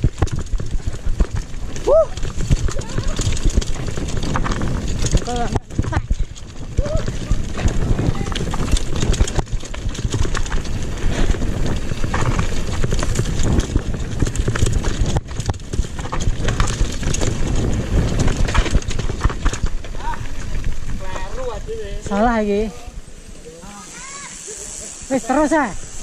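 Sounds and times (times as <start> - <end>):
wind rumble on microphone: 0.0 - 23.1
bike rattling over bumps: 0.0 - 26.0.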